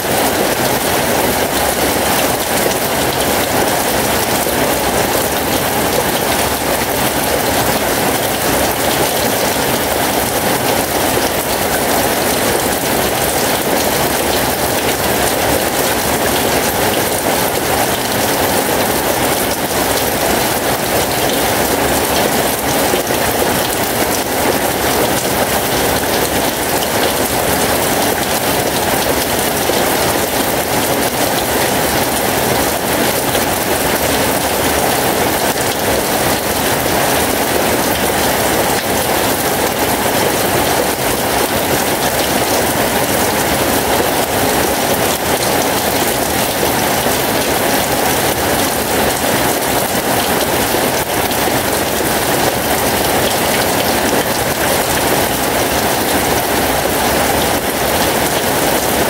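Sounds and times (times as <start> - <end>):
heavy rain falling: 0.0 - 59.0
water streaming off roof: 0.0 - 59.0.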